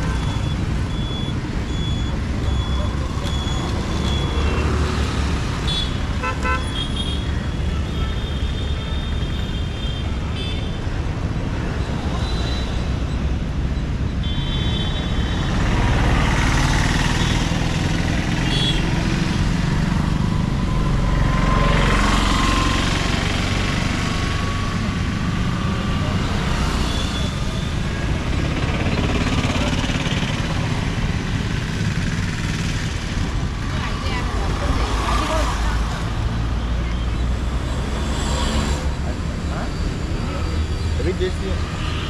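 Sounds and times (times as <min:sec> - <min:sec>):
motorcycles and cars passing: 0:00.0 - 0:42.0
traffic rumble: 0:00.0 - 0:42.0.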